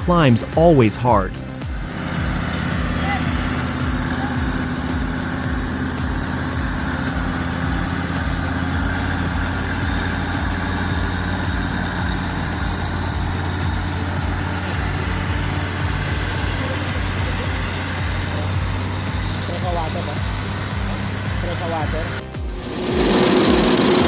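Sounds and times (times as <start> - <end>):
diesel truck engine humming: 0.0 - 24.0.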